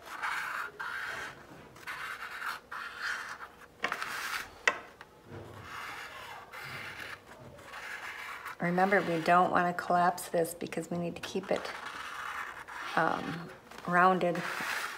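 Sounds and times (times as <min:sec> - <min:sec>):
marker scratching on paper: 0:00.0 - 0:04.8, 0:05.5 - 0:14.9.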